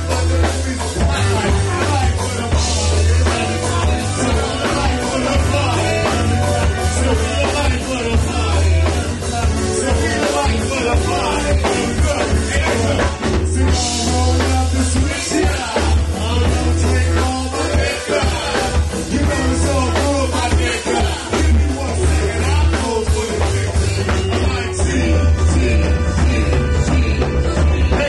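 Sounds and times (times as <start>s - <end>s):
drums: 0.0s - 28.0s
electric guitar: 0.0s - 28.0s
heavy bass line: 0.0s - 28.0s
people singing into microphones: 0.0s - 28.0s.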